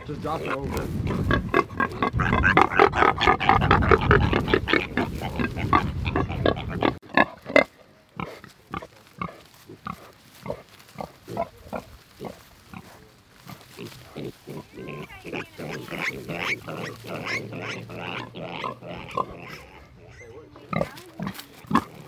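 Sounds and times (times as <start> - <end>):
pigs grunting: 0.0 - 22.0.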